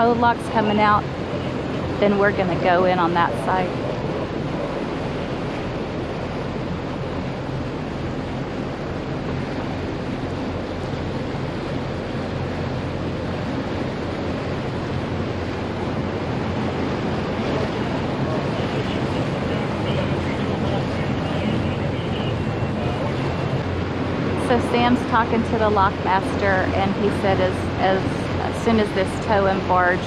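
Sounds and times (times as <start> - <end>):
boat engines idling: 0.0 - 30.0.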